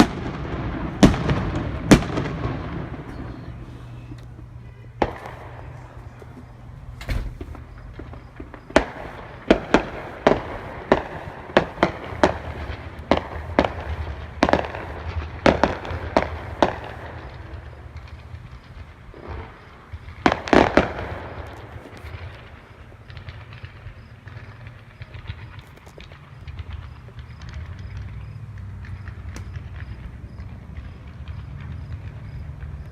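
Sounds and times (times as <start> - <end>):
fireworks bangs: 0.0 - 32.9
steady low hum: 0.1 - 32.9.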